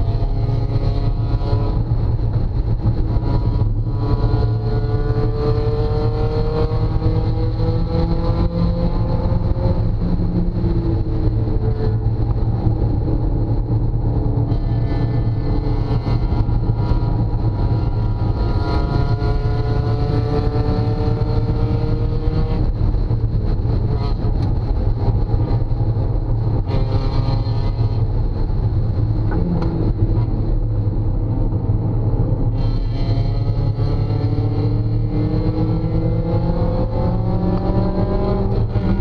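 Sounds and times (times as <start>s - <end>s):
car engine under full throttle: 0.0s - 39.0s
road noise inside car: 0.0s - 39.0s.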